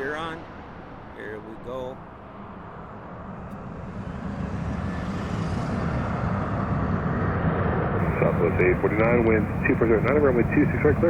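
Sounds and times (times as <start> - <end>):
jet engines rumble and hiss: 0.0 - 11.0.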